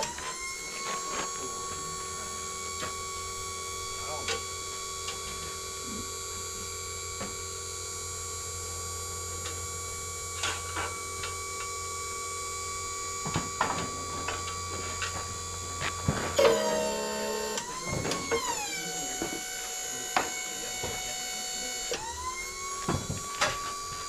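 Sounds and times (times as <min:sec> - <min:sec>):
hydraulic pump whining: 0:00.0 - 0:24.0.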